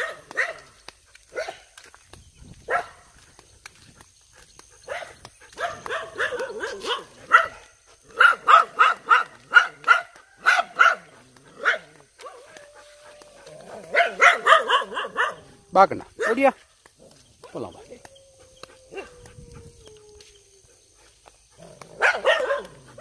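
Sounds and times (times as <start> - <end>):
dogs barking: 0.0 - 1.9, 2.6 - 3.4, 4.4 - 23.0.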